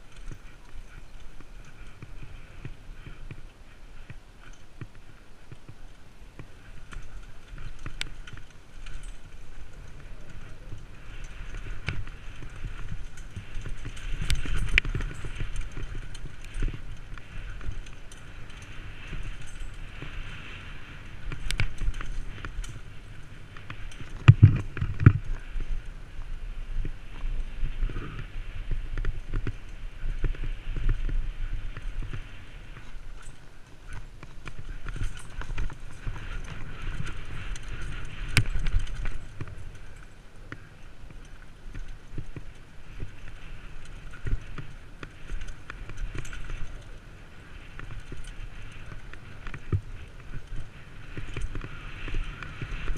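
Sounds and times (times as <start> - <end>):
bike chain and frame rattling: 0.0 - 52.9.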